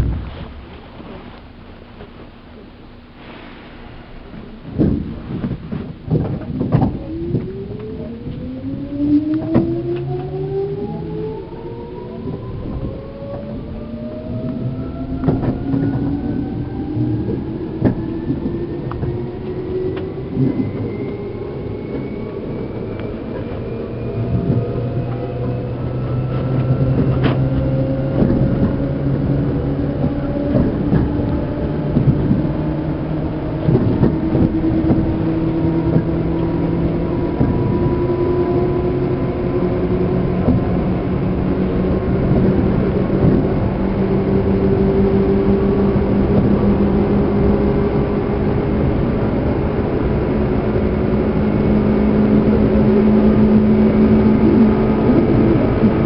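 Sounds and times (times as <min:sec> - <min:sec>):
rumbling wheel and rail noise: 0:00.0 - 0:56.0
train motor whine rising: 0:00.0 - 0:56.0.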